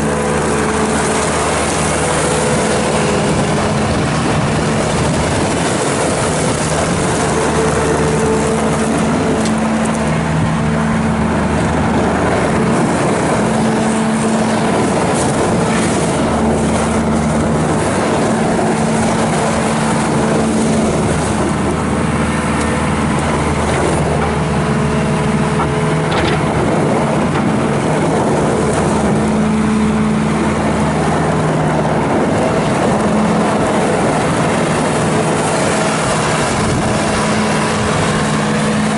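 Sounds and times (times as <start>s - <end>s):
diesel engine running: 0.0s - 38.9s
machine whine: 0.0s - 38.9s.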